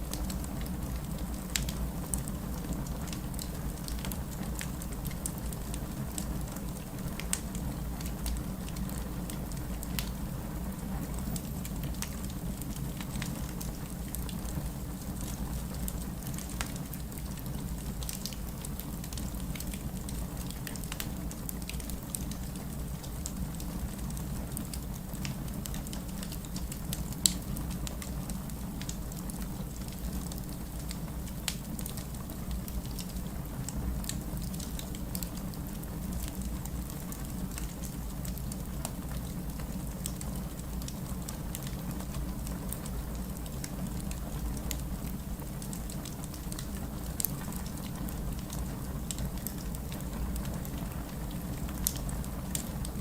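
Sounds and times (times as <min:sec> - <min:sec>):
fireplace crackling: 0:00.0 - 0:53.0
steady rain: 0:00.0 - 0:53.0.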